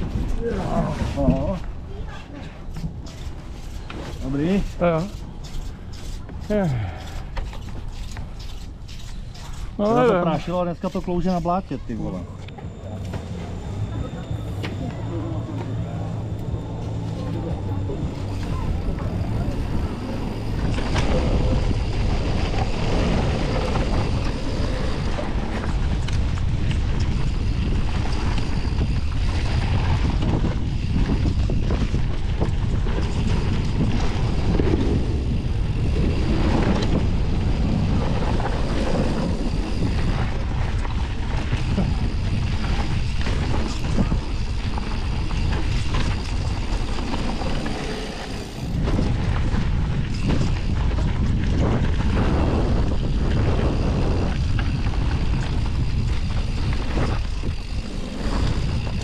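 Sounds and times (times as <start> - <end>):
bike tyres and frame rattling: 0.0 - 59.0
wind buffeting microphone: 0.0 - 59.0.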